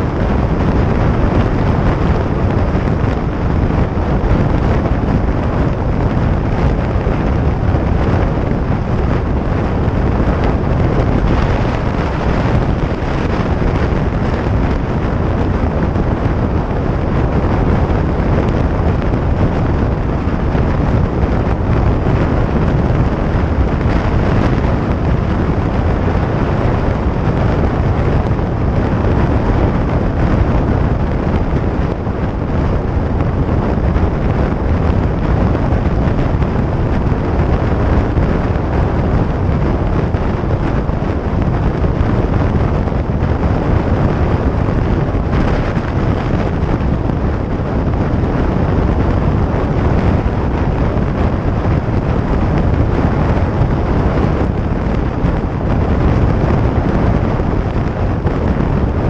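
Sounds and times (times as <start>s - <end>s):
motorcycle engine at speed: 0.0s - 59.0s
wind buffeting microphone: 0.0s - 59.0s.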